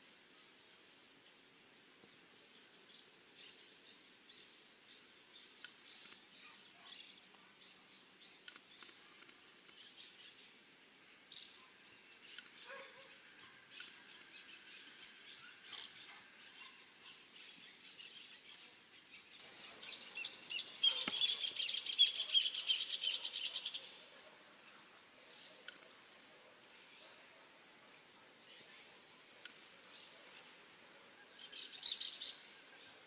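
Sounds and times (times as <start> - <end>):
small birds chirping: 0.2 - 33.0.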